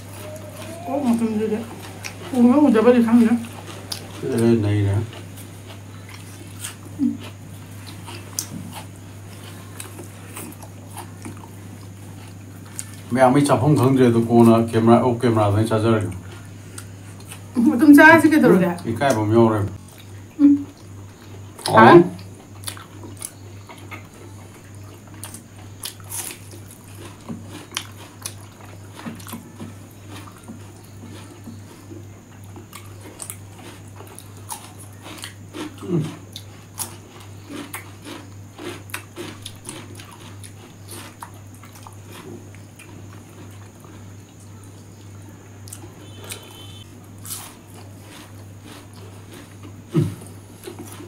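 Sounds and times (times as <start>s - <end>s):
chewing and lip smacks: 0.0s - 2.4s, 3.4s - 13.1s, 19.8s - 51.0s.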